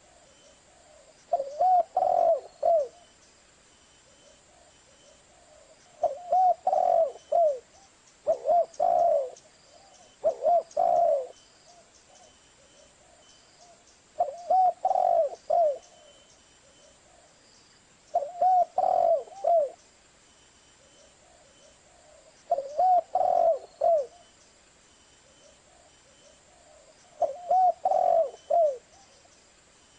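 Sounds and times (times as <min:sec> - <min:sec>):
dove cooing: 0:00.0 - 0:03.1, 0:04.1 - 0:17.4, 0:18.1 - 0:19.8, 0:20.8 - 0:24.3, 0:25.2 - 0:29.3.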